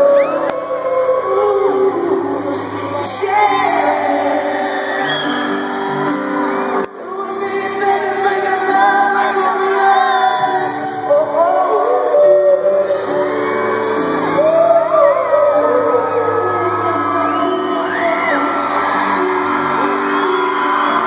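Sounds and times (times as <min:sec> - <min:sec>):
person singing: 0:00.0 - 0:21.0.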